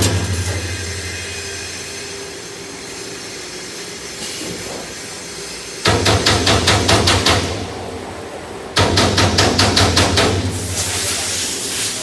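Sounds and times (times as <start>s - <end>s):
punch press mechanical whir: 0.0s - 10.8s.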